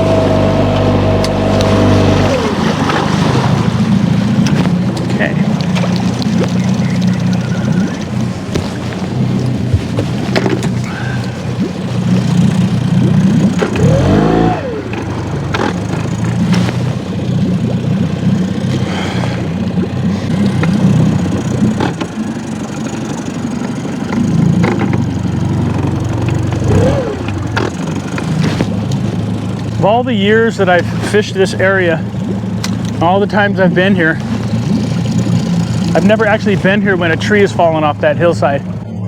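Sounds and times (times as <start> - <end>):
boat motor running: 0.0 - 39.0.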